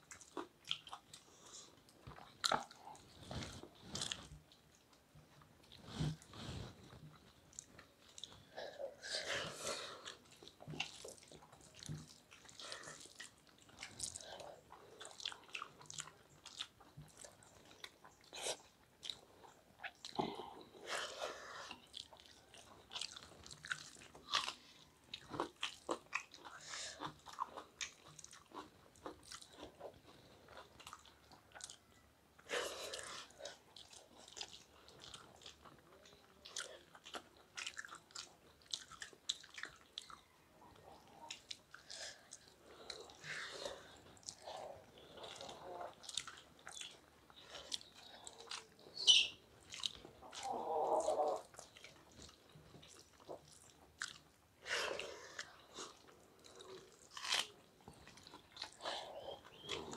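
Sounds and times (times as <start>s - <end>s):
wet chewing and smacking: 0.0s - 59.9s.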